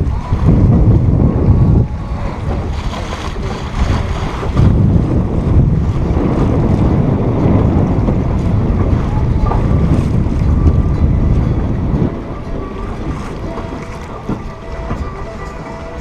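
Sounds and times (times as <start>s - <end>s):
water splashing along boat hull: 0.0s - 16.0s
wind blowing across microphone: 0.0s - 16.0s.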